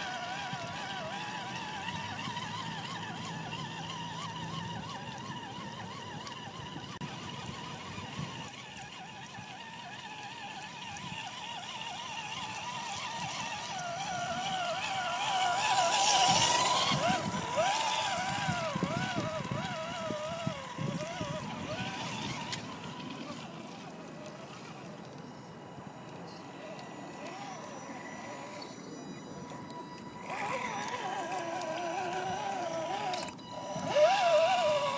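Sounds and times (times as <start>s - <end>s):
electric motor whining: 0.0s - 34.9s.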